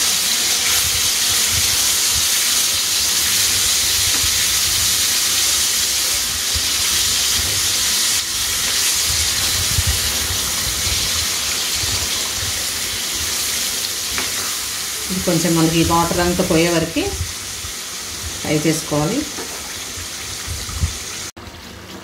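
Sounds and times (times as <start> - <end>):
chicken sizzling in a pan: 0.0 - 21.4.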